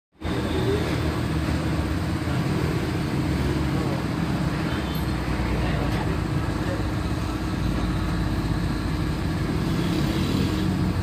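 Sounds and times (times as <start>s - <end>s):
vehicle engine rumbling: 0.2s - 11.0s.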